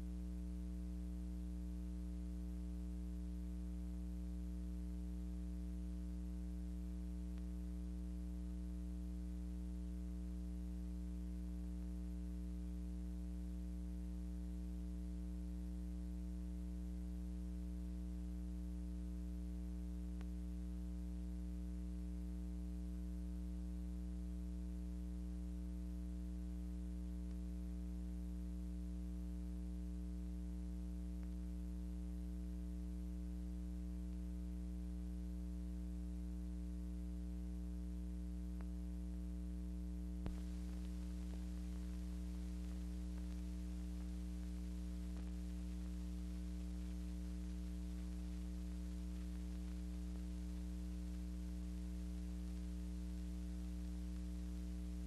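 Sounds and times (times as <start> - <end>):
electrical mains hum with hiss: 0.0 - 55.0.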